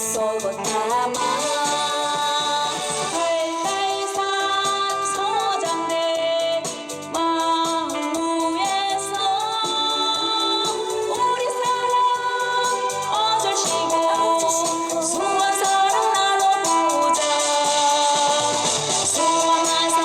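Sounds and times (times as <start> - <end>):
instrumental accompaniment: 0.0 - 20.0
person singing with vibrato: 0.0 - 20.0.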